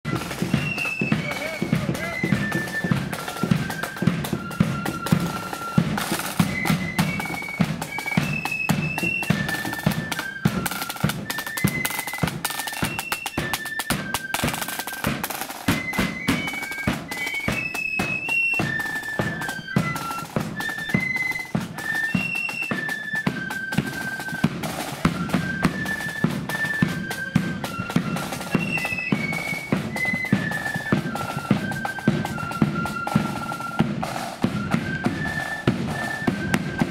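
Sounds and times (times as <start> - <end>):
rolling snare drums: 0.0 - 36.9
flutes playing a melody: 0.1 - 36.9.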